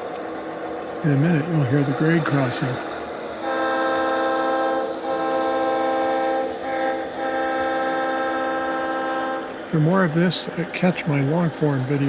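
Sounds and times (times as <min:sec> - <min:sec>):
model train diesel air horn: 0:00.8 - 0:12.0.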